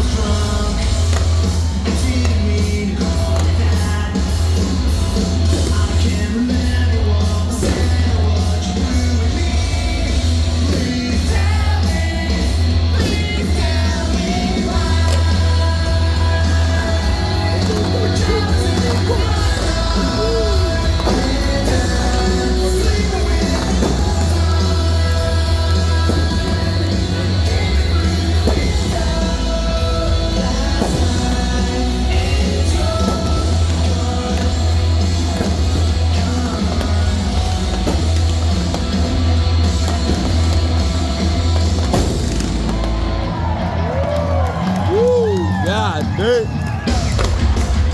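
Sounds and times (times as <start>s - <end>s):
heavy bass line: 0.0s - 47.9s
rock song with singer: 0.0s - 47.9s.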